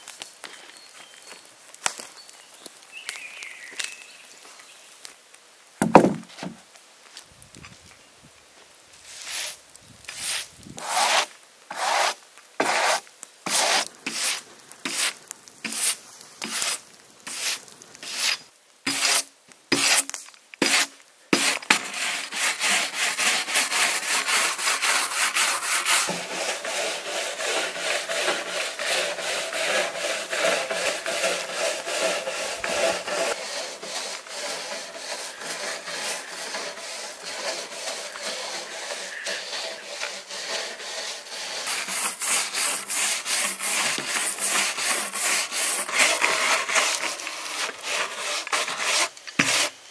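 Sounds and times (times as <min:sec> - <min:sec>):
brush scrubbing wooden board: 0:05.8 - 0:06.6, 0:09.1 - 0:49.7.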